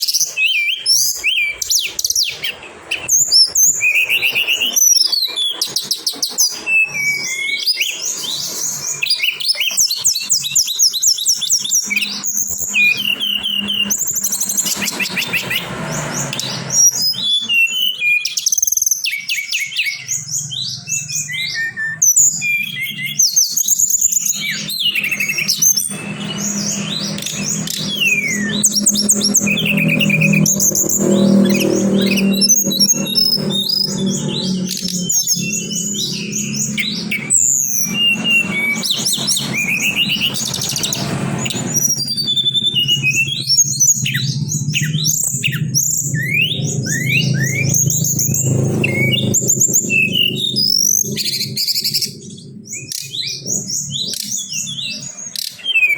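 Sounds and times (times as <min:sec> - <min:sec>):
songbird chirping and trilling: 0:00.0 - 0:55.9.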